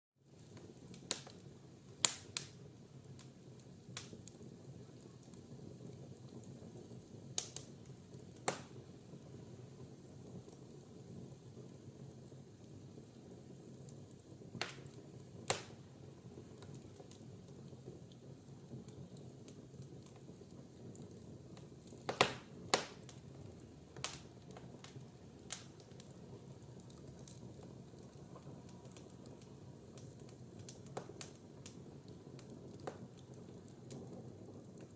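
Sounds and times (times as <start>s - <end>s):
fire crackling and popping: 0.2s - 34.9s
fire hissing: 0.3s - 34.9s.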